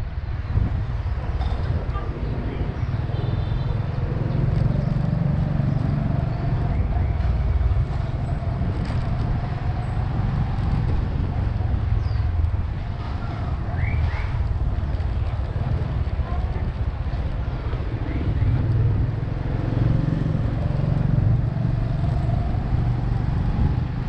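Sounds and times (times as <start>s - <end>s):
road noise: 0.0s - 24.0s
wind buffeting microphone: 0.0s - 24.0s.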